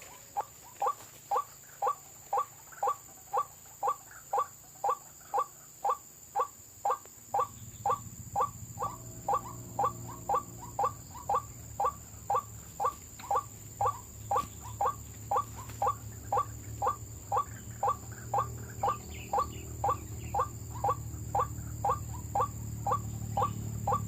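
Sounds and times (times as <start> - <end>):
waterhen calling: 0.0 - 24.0.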